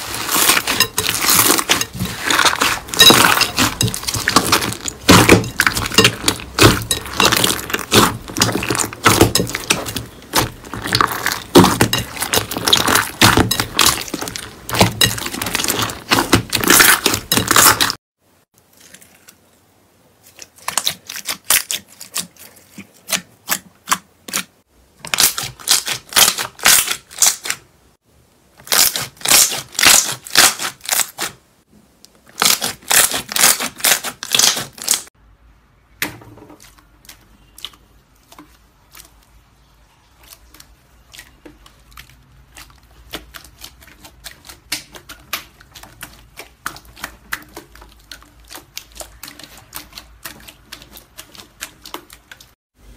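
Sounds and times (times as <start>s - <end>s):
slime squelching: 0.0s - 18.0s, 20.2s - 27.6s, 32.1s - 35.2s, 36.0s - 52.6s.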